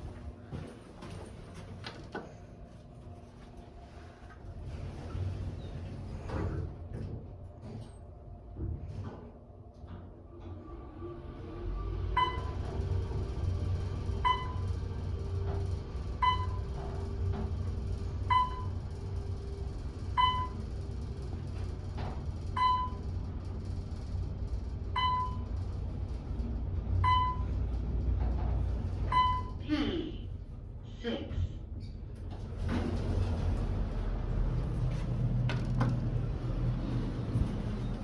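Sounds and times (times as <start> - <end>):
elevator low rumble: 0.0 - 38.0.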